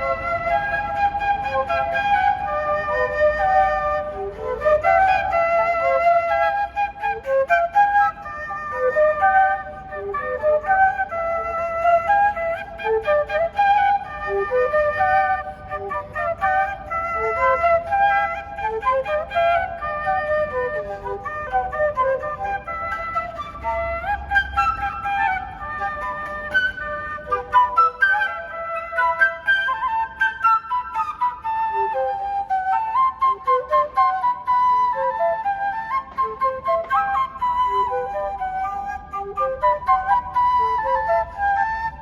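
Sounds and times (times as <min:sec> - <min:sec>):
flute playing lively melody: 0:00.0 - 0:42.0.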